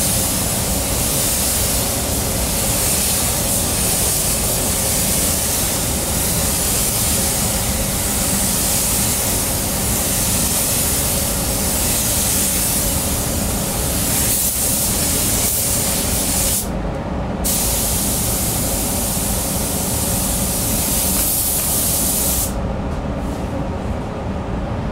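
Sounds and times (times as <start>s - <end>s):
paint spray gun hissing: 0.0s - 16.7s, 17.5s - 22.6s.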